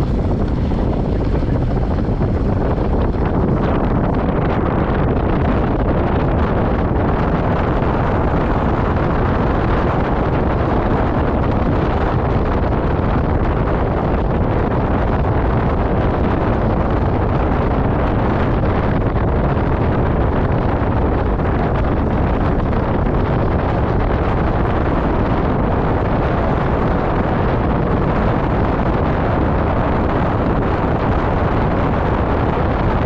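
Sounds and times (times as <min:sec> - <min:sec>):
car driving on dirt road: 0:00.0 - 0:33.0
wind on microphone: 0:00.0 - 0:33.0.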